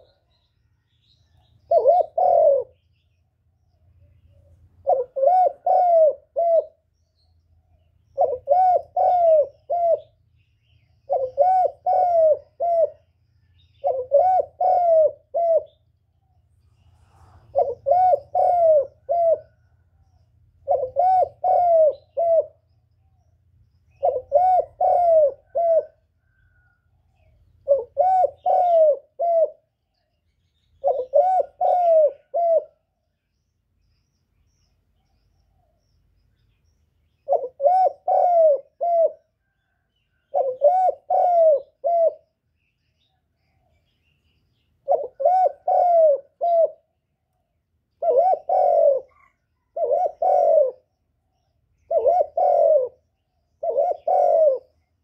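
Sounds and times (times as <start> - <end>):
dove cooing: 0.0 - 3.1, 4.0 - 7.0, 8.0 - 23.3, 23.9 - 33.1, 37.1 - 42.4, 44.8 - 47.0, 47.9 - 55.0.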